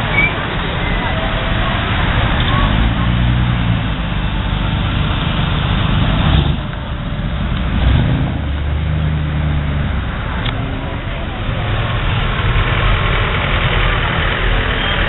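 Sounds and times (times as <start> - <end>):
cars driving slowly past: 0.0 - 15.0
pickup truck engine passing: 0.0 - 15.0.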